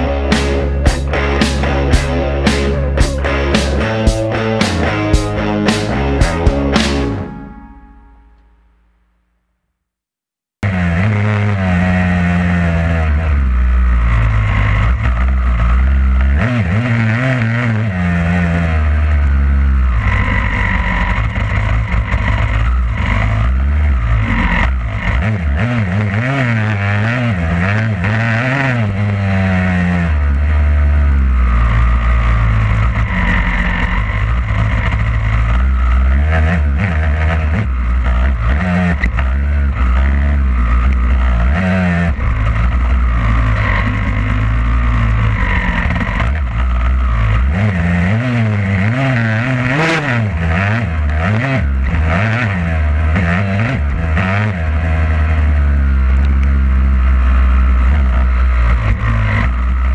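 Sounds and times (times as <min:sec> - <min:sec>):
motocross bike engine revving: 0:00.0 - 0:07.8, 0:10.6 - 0:59.9.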